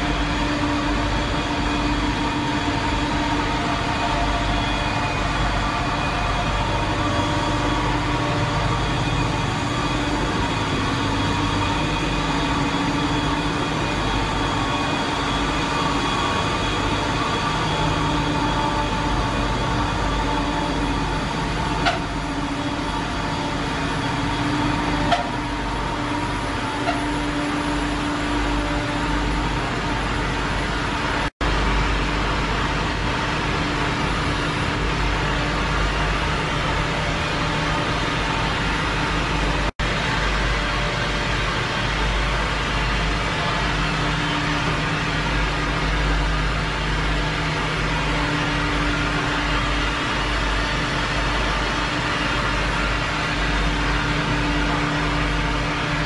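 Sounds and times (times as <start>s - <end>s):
engine-room machinery drone: 0.0s - 56.0s.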